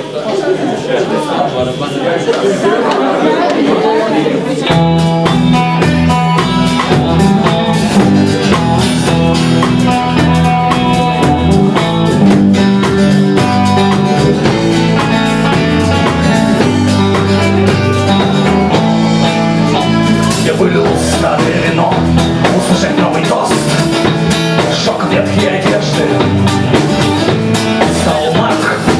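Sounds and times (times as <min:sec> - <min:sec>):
rock band playing live: 0:04.5 - 0:28.9.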